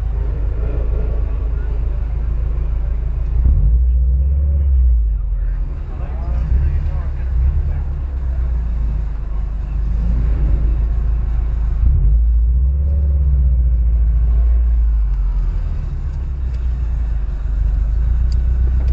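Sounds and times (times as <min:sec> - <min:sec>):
car engine rumbling: 0:00.0 - 0:18.9.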